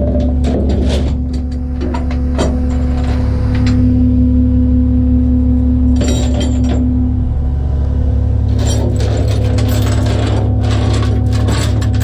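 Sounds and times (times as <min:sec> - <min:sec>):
steady whine: 0:00.0 - 0:12.0
truck engine running: 0:00.0 - 0:12.0.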